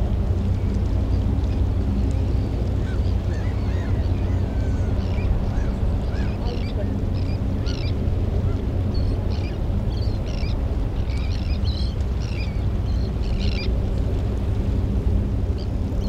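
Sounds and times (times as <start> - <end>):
steady low rumble: 0.0 - 16.0
birds chirping: 0.4 - 14.0.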